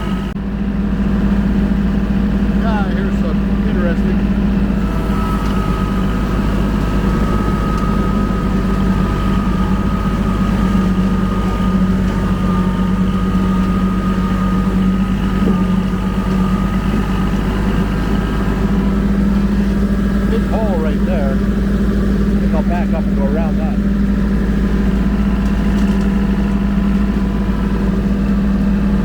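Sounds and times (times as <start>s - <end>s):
mower whine: 0.0s - 29.0s
tractor diesel engine running: 0.0s - 29.0s.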